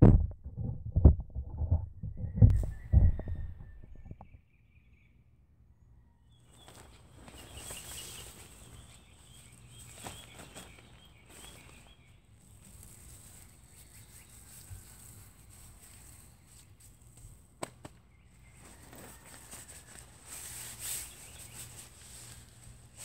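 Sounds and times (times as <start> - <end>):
birds chirping: 2.0 - 23.0.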